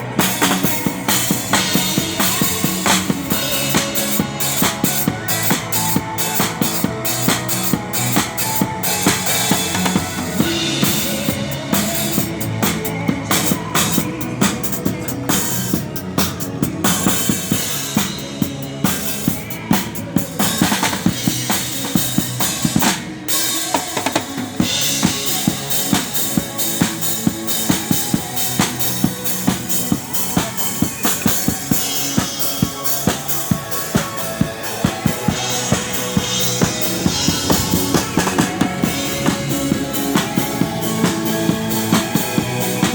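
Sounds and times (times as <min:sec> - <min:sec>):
accompanying music: 0:00.0 - 0:42.9
drum kit playing fast: 0:00.0 - 0:42.9.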